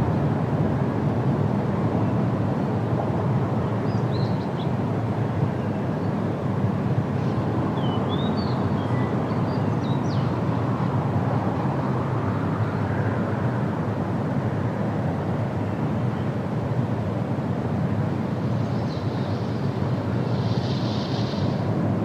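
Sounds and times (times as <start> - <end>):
wind rushing through trees: 0.0 - 22.0.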